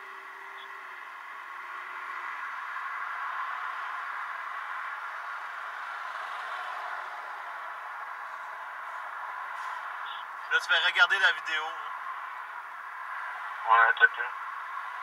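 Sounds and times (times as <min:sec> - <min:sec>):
cars driving past: 0:00.0 - 0:15.0
road traffic hiss: 0:00.0 - 0:15.0.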